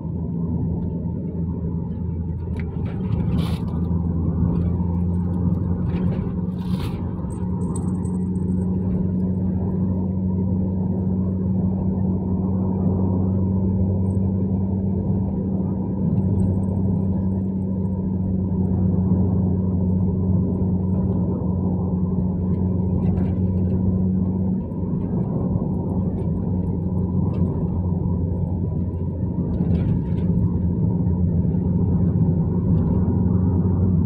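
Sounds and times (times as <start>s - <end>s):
engine and road drone: 0.0s - 34.0s.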